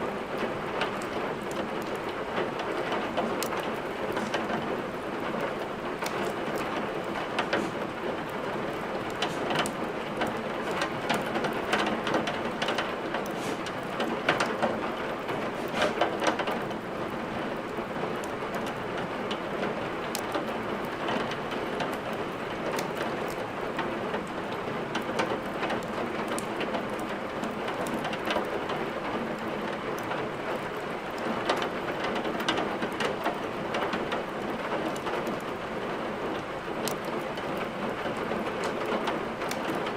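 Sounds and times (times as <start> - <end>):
steady rain: 0.0 - 39.9
wood fire crackling and popping: 0.3 - 39.9.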